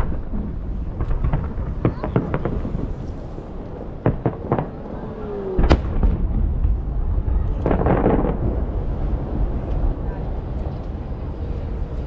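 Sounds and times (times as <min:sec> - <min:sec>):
fireworks cracking: 0:00.0 - 0:12.0
loud fireworks bang with rumble: 0:00.0 - 0:12.0.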